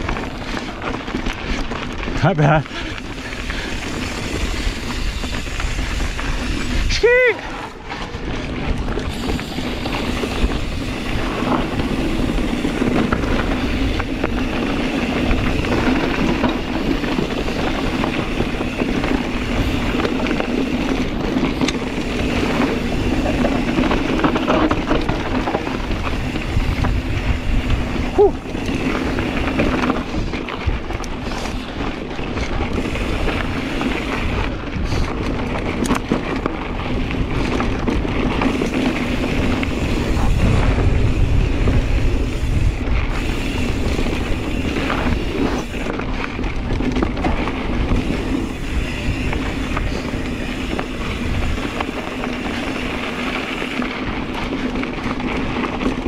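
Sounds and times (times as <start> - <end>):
bike tyres rumbling over rocks: 0.0 - 56.0
wind on microphone: 2.9 - 55.7.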